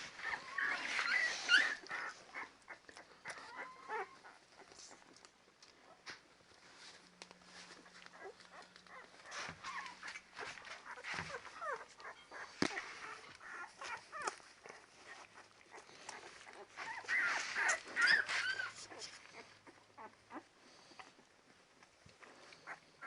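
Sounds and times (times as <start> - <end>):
puppies squeaking and whimpering: 0.0 - 5.3, 7.6 - 21.4, 22.1 - 23.0.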